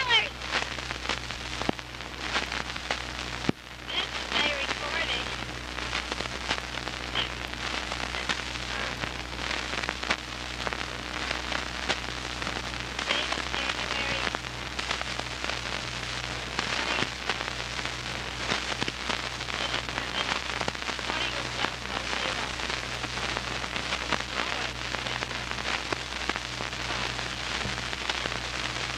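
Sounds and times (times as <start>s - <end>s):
low electrical hum: 0.0s - 28.9s
record surface crackling and hiss: 0.0s - 28.9s.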